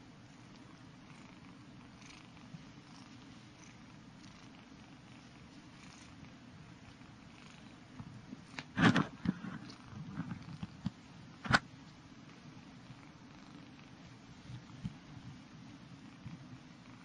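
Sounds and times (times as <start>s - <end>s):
kitten purring: 0.4s - 10.9s, 11.5s - 17.0s.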